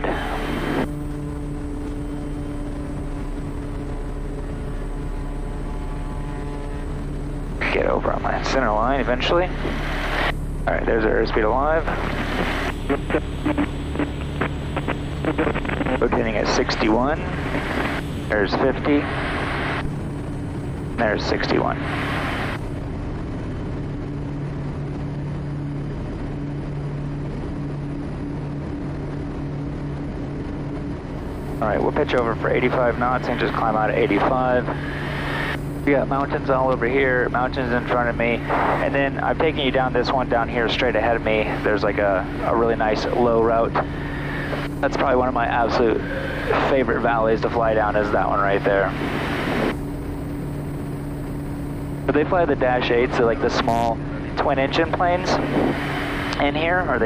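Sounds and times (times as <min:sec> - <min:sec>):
turboprop engine droning: 0:00.0 - 0:57.0.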